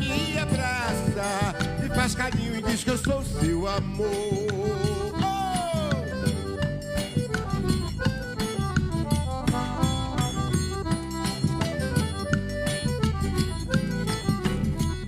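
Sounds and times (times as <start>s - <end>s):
band playing instrumental melody: 0.0s - 15.0s
drum and percussion beat: 0.0s - 15.0s.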